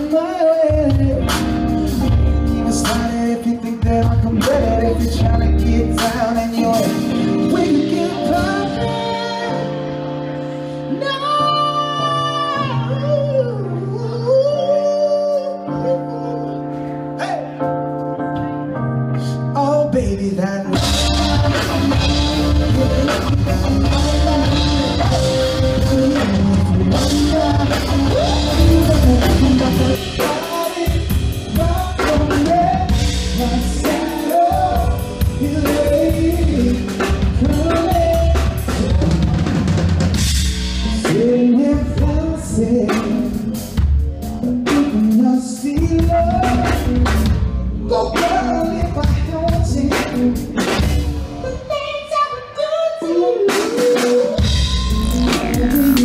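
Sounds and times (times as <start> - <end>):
pop band with lead singer: 0.0 - 17.8, 19.1 - 56.0.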